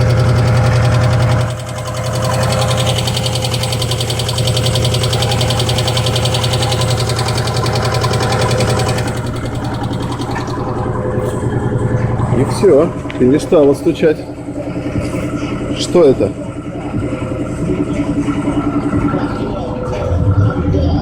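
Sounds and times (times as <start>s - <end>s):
rapid engine knock: 0.0s - 20.0s
car engine running: 0.0s - 21.0s.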